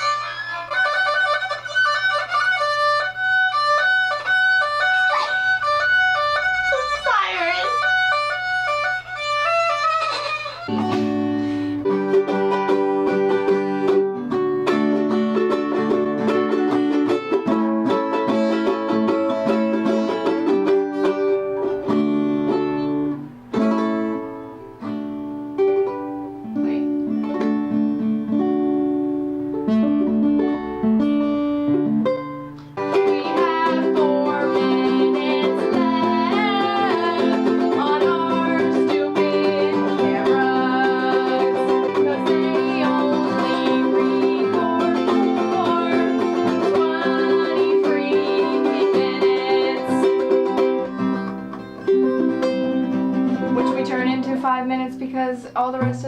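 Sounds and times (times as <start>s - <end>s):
high melody with vibrato: 0.0s - 54.6s
strummed string instrument chords: 0.0s - 56.0s.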